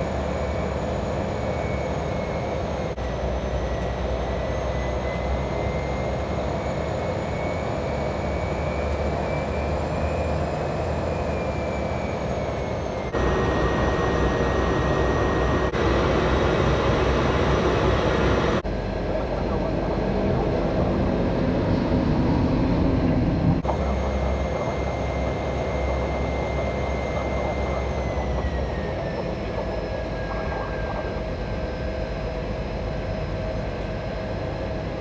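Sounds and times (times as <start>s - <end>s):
high turbine whine: 0.0s - 35.0s
turboprop engine roar: 0.0s - 35.0s.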